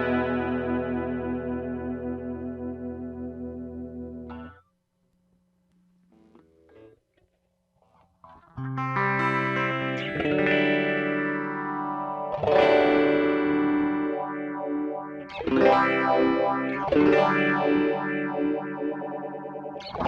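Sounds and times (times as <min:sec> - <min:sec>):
electric guitar chords ringing: 0:00.0 - 0:04.6, 0:08.2 - 0:20.0.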